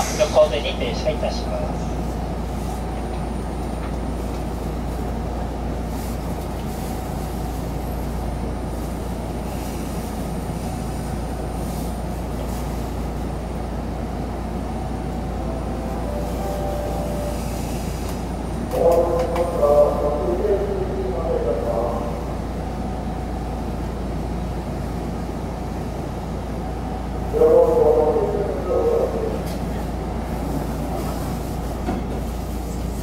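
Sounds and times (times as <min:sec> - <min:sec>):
train wheels rumbling on rails: 0:00.0 - 0:22.4, 0:28.9 - 0:33.0.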